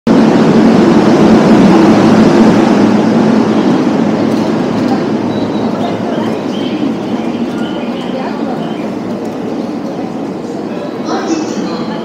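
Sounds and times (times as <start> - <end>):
electric train rumbling: 0.1 - 12.0.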